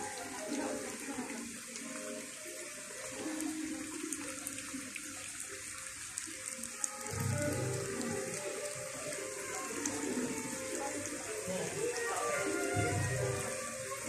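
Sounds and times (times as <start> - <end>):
faint background music: 0.0 - 14.0
water pouring and splashing: 0.0 - 14.0.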